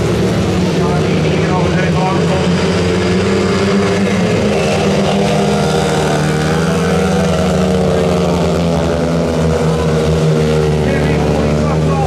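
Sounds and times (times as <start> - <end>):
motorcycles racing: 0.0 - 12.0.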